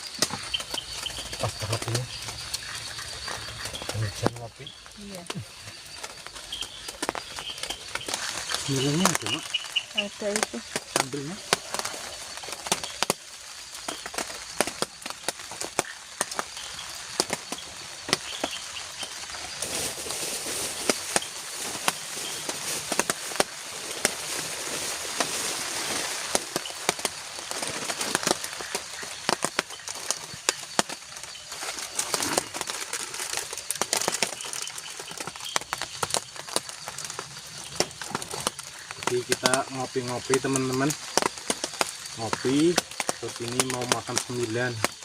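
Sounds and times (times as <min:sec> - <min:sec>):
raindrop ticks: 0:00.0 - 0:19.8, 0:20.6 - 0:45.0
rain hissing on a roof: 0:00.0 - 0:45.0.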